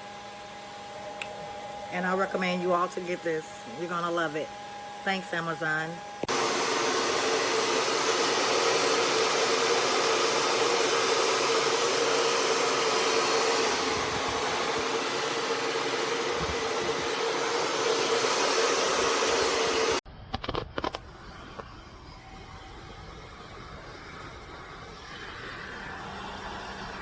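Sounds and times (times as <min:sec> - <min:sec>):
hair dryer blowing: 0:00.0 - 0:20.0, 0:21.2 - 0:27.0.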